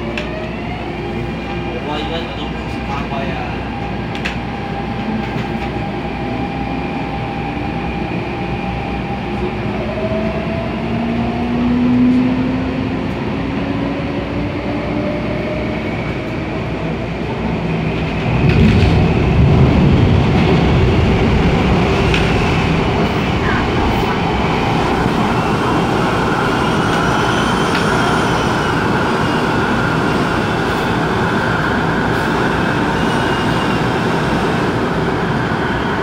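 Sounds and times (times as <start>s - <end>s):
train rail running noise: 0.0s - 36.0s.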